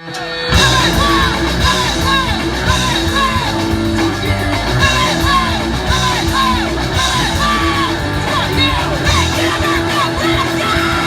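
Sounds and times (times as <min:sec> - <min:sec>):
punk rock band playing: 0:00.0 - 0:11.0
shouted and sung vocals: 0:00.0 - 0:11.0.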